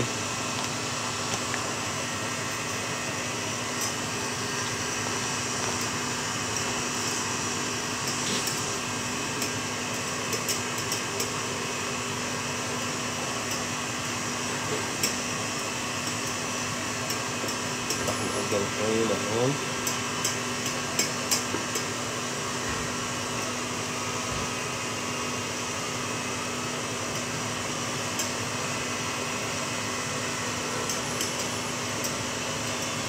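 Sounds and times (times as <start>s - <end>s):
stand mixer running: 0.0s - 33.0s.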